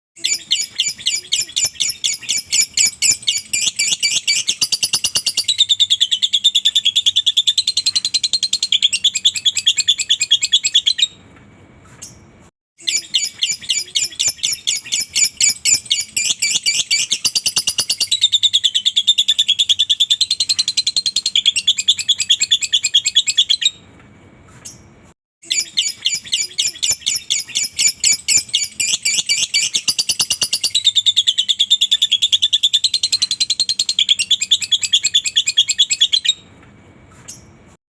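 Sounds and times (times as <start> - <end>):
lovebird chattering trill: 0.2 - 11.1, 12.8 - 23.7, 25.4 - 36.4.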